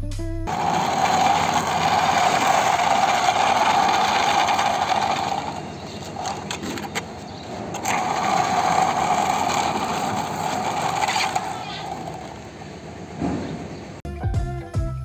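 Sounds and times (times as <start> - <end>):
plastic toy truck whirring: 0.5 - 13.2.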